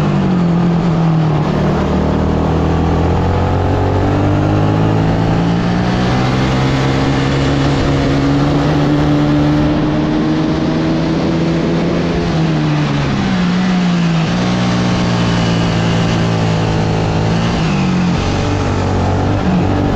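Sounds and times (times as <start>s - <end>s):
kart engine revving: 0.0s - 19.9s.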